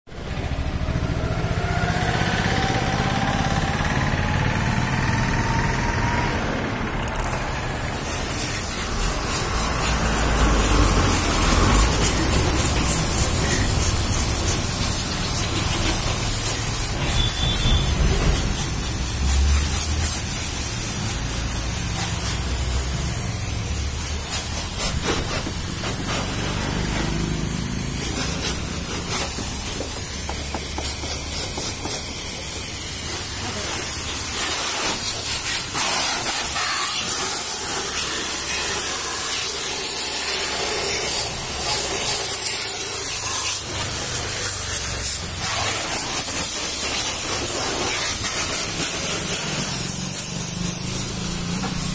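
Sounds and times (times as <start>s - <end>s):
pressure washer spraying water: 7.1s - 51.9s.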